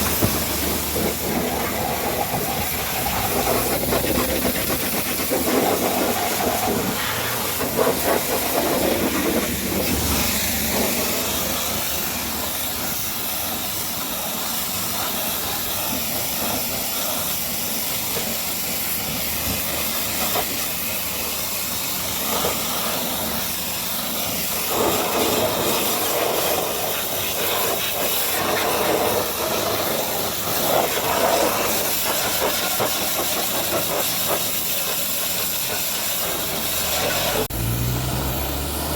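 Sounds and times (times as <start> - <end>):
pressure washer spraying: 0.0 - 38.9.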